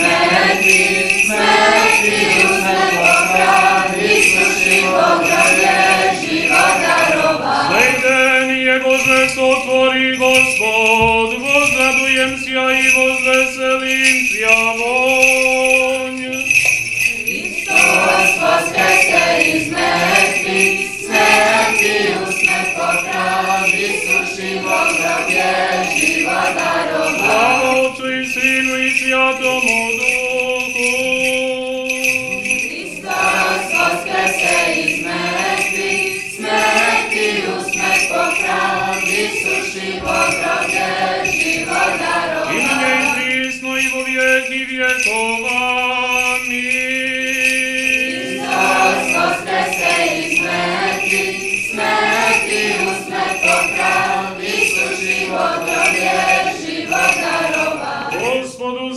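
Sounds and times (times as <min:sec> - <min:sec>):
church bells ringing: 0:00.0 - 0:58.4
choral singing: 0:00.0 - 0:58.9.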